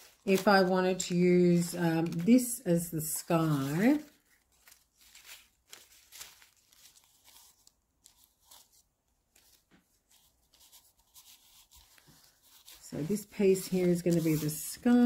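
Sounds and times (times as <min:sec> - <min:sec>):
paper sheets rustling: 0:00.0 - 0:15.0.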